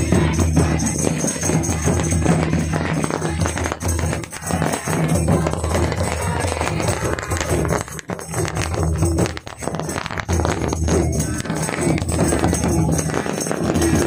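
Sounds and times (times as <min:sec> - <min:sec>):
folk drum ensemble playing: 0:00.0 - 0:14.0.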